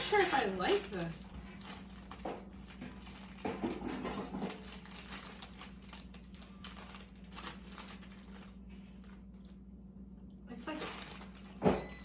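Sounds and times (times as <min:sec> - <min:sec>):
crisp packet crinkling: 0:00.0 - 0:09.6, 0:10.6 - 0:11.6.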